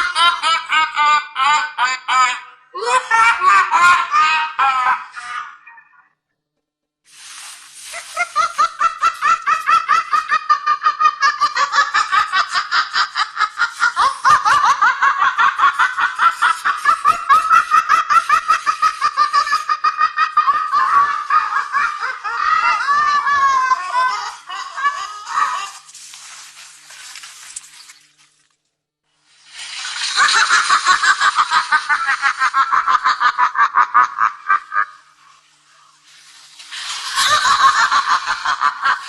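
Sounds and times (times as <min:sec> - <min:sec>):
high-pitched evil cackle: 0:00.0 - 0:06.2, 0:07.9 - 0:25.9, 0:29.8 - 0:35.2, 0:36.7 - 0:39.0.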